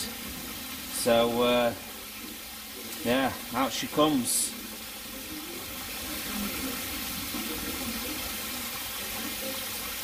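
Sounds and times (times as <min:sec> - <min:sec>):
water gushing and splashing on floor: 0:00.0 - 0:10.0.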